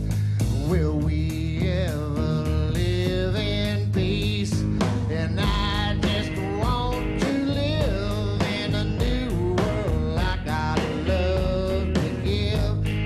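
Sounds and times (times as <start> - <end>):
electric guitar: 0.0 - 13.0
rock band playing live: 0.0 - 13.0.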